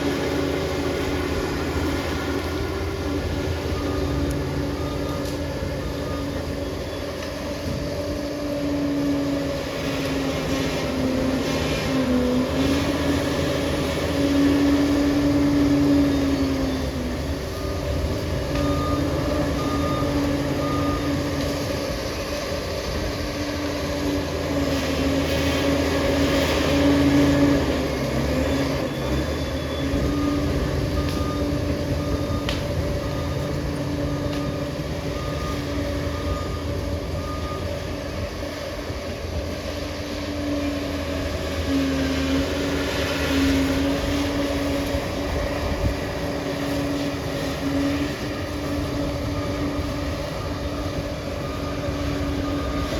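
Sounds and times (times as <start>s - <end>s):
bulldozer diesel engine: 0.0s - 52.9s.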